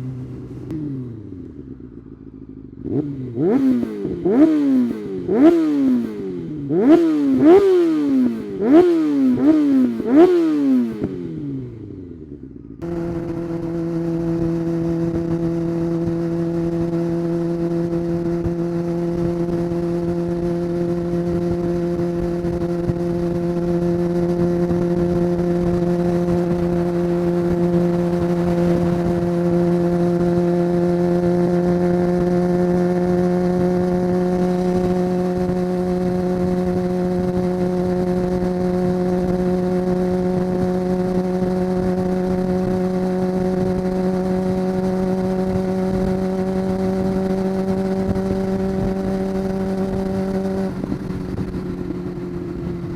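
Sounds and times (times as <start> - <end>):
motorcycle engine cruising: 0.0 - 52.9
wind and road noise: 0.0 - 52.9.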